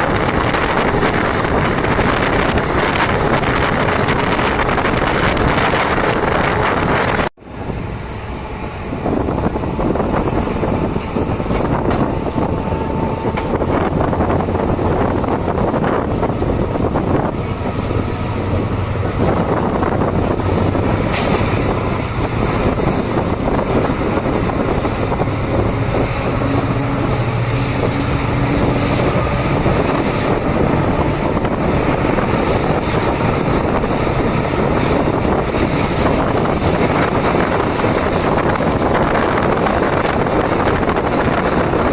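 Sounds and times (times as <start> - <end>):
diesel locomotive engine running hard: 0.0 - 41.9
high engine whine: 0.0 - 41.9.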